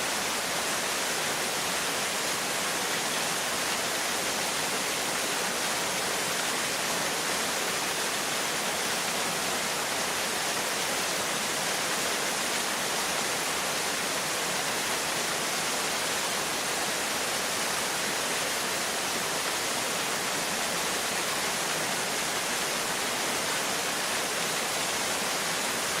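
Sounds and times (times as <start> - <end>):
small waterfall pouring: 0.0 - 26.0.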